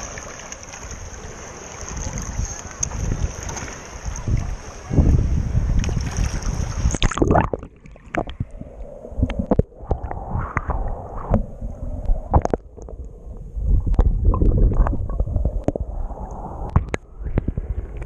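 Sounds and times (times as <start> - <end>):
wind on microphone: 0.8 - 18.0.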